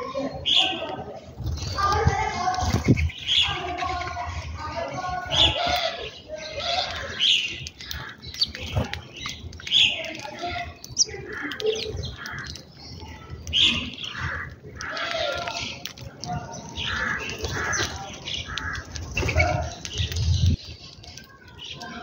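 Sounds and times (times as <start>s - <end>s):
indistinct voices: 0.0s - 22.0s
sparrows chirping: 0.0s - 22.0s.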